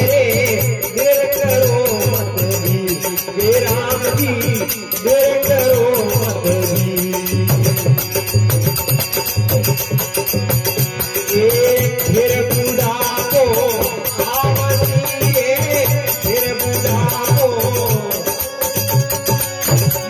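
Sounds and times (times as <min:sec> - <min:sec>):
dholak drum beating: 0:00.0 - 0:20.0
hand percussion jingling: 0:00.0 - 0:20.0
harmonium tone: 0:00.0 - 0:20.0
man singing: 0:00.0 - 0:20.0.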